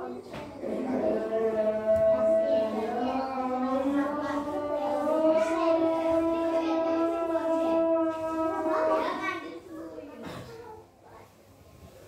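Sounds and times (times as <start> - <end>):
boy chanting: 0.0 - 9.9.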